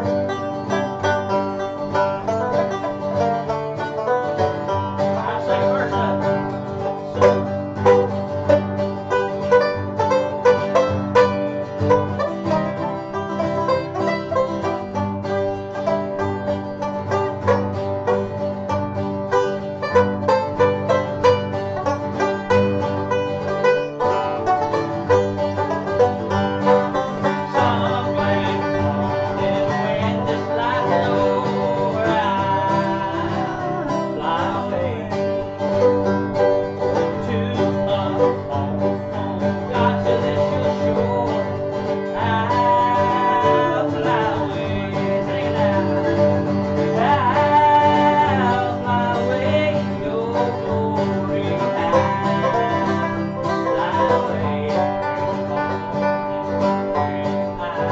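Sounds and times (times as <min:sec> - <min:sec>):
acoustic guitar strumming: 0:00.0 - 0:57.9
banjo picking: 0:00.0 - 0:57.9.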